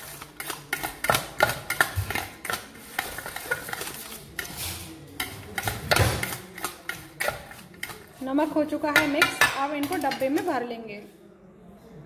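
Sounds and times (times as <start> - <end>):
spoon clinking and scraping metal bowl: 0.0 - 10.6.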